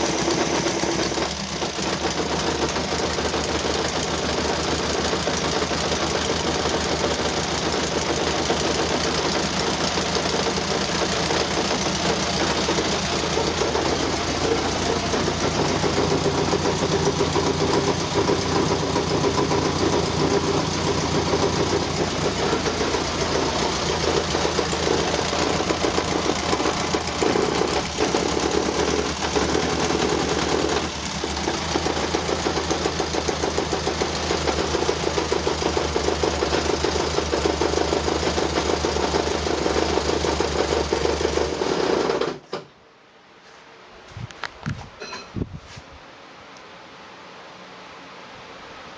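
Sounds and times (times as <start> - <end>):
car engine running: 0.0 - 42.4.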